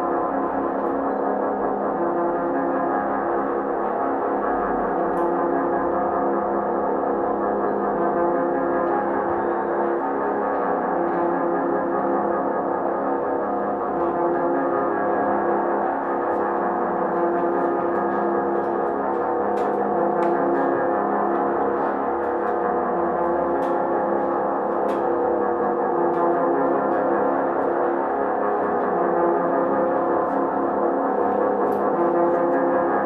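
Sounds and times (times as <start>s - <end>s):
droning ambient music: 0.0s - 33.0s.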